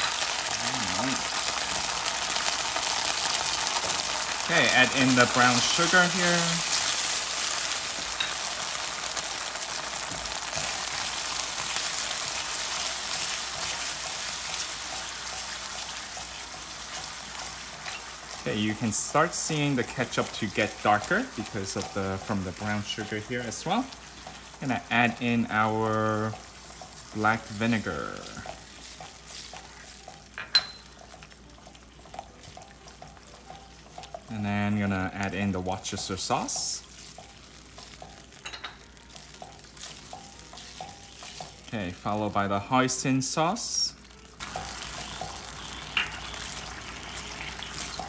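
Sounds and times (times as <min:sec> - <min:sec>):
sauce sizzling in a wok: 0:00.0 - 0:48.0.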